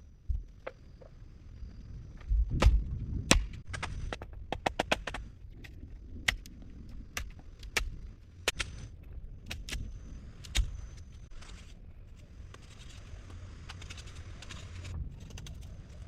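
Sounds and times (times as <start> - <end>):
sharp wooden clicks and cracks: 2.5 - 16.0.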